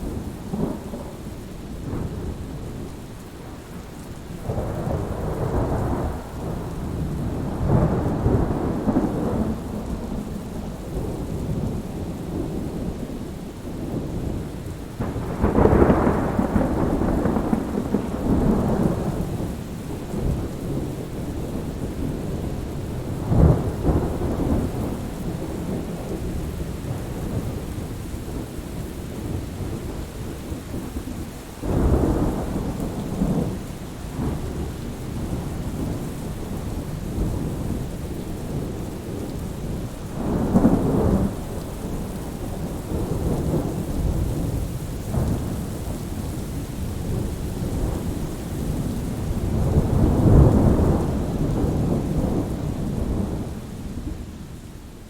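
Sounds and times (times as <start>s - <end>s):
thunder rumbling: 0.0s - 54.4s
steady rain: 0.0s - 55.0s.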